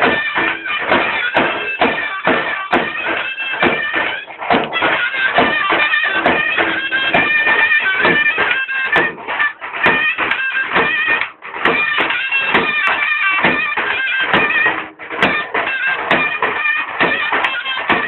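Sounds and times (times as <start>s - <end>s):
drum beats: 0.0s - 18.0s
shrill reed pipe melody: 0.0s - 18.0s.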